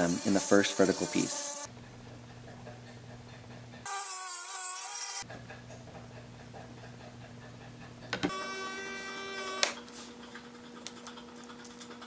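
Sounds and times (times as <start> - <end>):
small motor low hum: 0.0 - 10.9.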